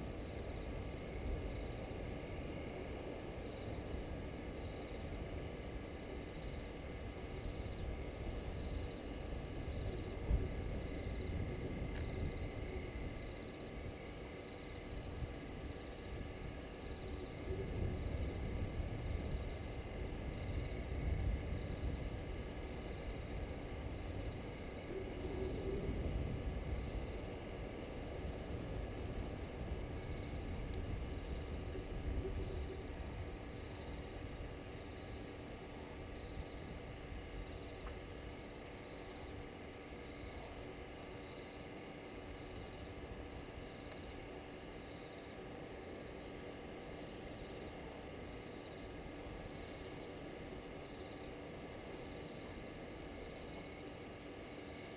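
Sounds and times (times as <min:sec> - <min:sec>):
crickets trilling: 0:00.0 - 0:54.9
short insect call: 0:00.0 - 0:54.9.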